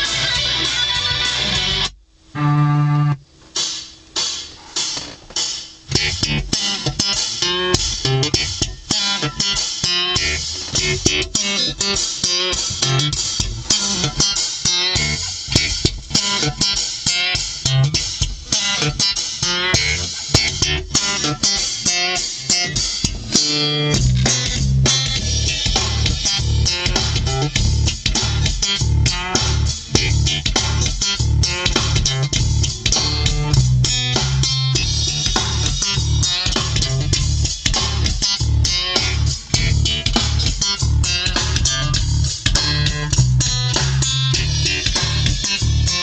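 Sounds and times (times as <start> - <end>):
guitar music through car stereo: 0.0 - 46.0.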